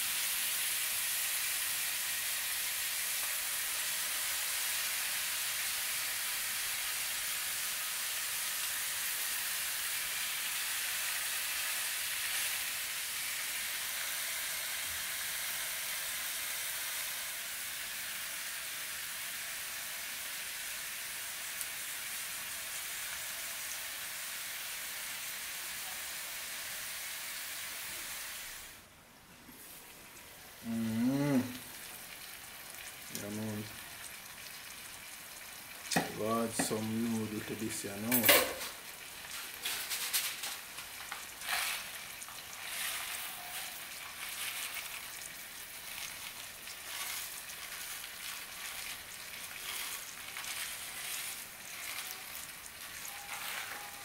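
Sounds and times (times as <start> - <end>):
fish frying in hot oil: 0.0 - 28.8, 29.6 - 54.0.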